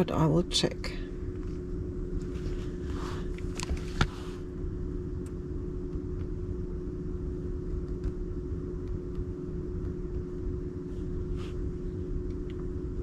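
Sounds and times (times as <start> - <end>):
low hum and rumble: 0.0 - 13.0.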